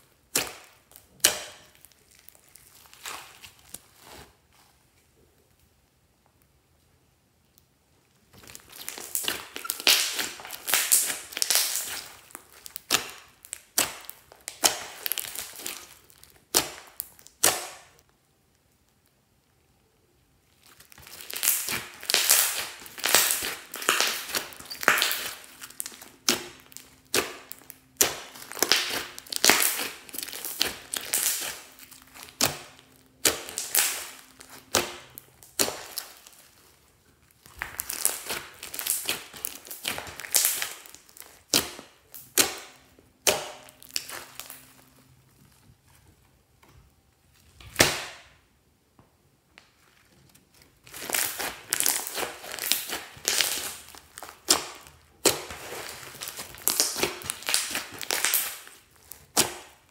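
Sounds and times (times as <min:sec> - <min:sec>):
slime crackling and popping: 0:00.0 - 0:04.3, 0:08.2 - 0:19.2, 0:20.4 - 0:45.6, 0:50.3 - 0:59.9.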